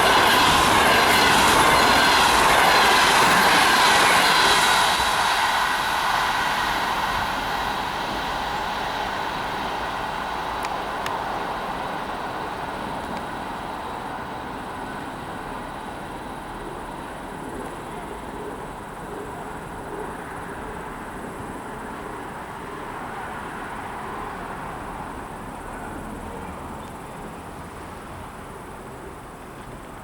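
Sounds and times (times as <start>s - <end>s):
train rolling past on rails: 0.0s - 30.0s.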